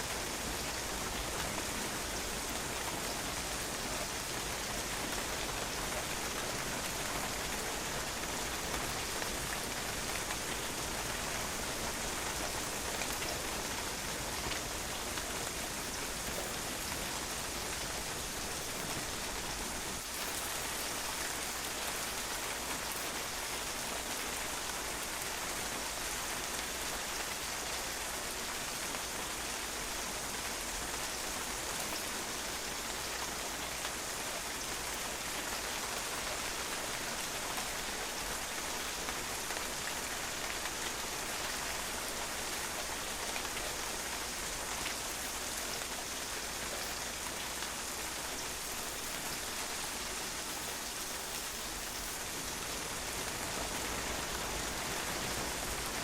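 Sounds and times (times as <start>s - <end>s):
rain falling on a patio: 0.0s - 56.0s.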